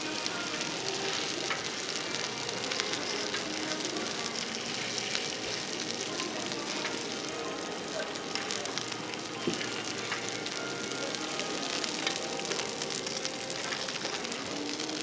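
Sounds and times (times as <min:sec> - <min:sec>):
steak sizzling on a griddle: 0:00.0 - 0:15.0.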